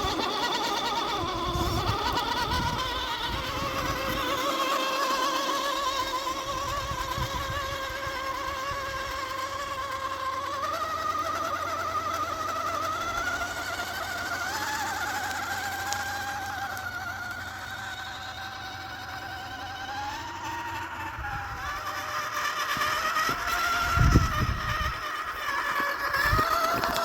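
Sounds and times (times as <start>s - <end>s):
toy car electric motor whining: 0.0s - 27.0s.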